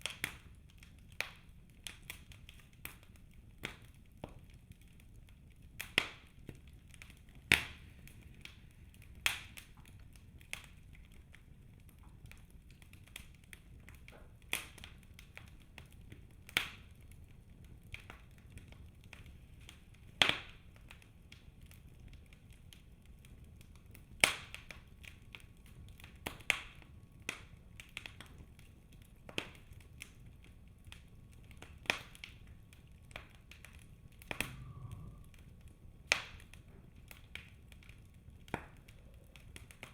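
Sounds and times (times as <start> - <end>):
logs crackling and snapping: 0.0 - 39.9
wood fire hissing: 5.8 - 39.9.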